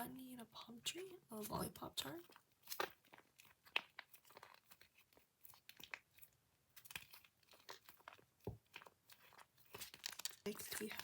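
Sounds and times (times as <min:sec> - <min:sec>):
plastic packaging crinkling: 0:01.4 - 0:11.0.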